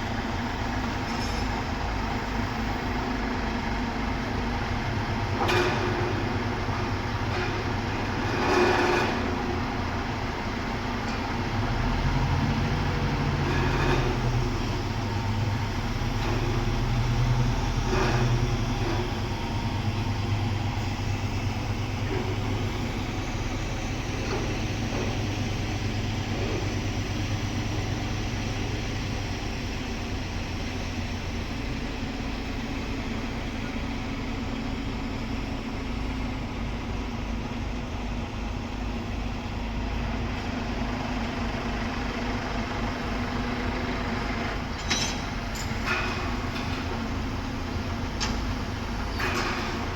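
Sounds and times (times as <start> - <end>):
heavy machine engine droning: 0.0 - 49.9.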